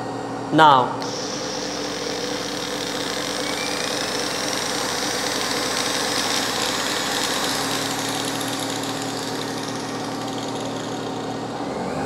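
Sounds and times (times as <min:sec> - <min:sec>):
motor hum with high whine: 0:00.0 - 0:12.0.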